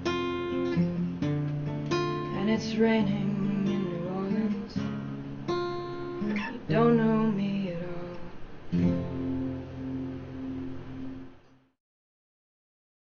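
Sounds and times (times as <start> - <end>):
acoustic guitar strumming: 0.0 - 11.6.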